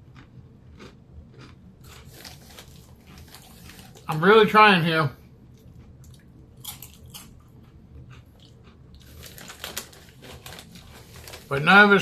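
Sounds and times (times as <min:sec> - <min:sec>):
person chewing crunchy chips: 0:00.0 - 0:04.3, 0:05.5 - 0:12.0.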